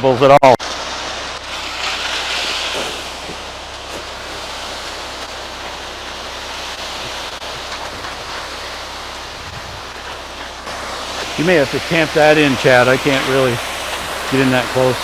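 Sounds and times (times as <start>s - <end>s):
low truck hum: 0.0s - 15.0s
wet concrete rushing down chute: 0.0s - 15.0s.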